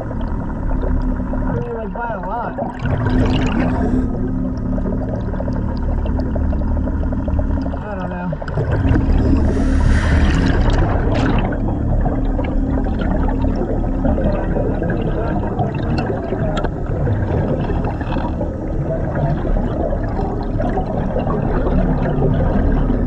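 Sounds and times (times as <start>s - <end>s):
underwater bubbling and gurgling: 0.0s - 23.0s.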